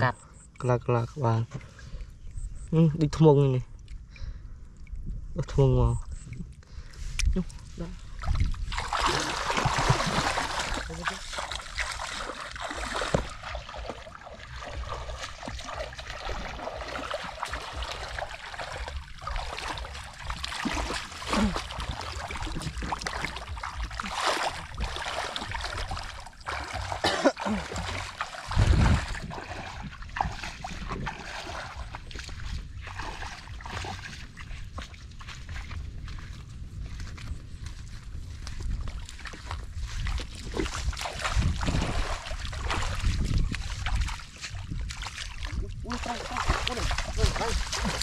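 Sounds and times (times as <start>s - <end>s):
feet wading through water: 6.0s - 48.0s.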